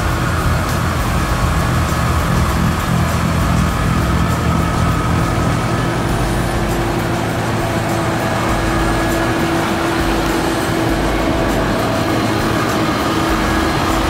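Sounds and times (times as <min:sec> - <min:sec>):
loader diesel engine with snowblower: 0:00.0 - 0:14.0.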